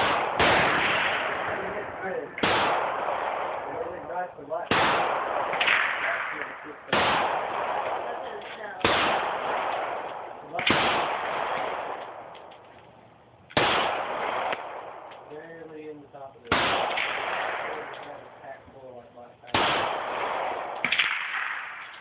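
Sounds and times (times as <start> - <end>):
pistol shots echoing: 0.0 - 12.7, 13.5 - 18.6, 19.4 - 22.0.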